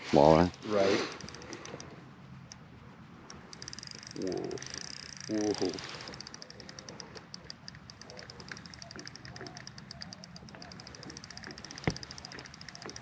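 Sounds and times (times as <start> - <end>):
fishing reel ticking: 0.0 - 2.6, 3.2 - 13.0.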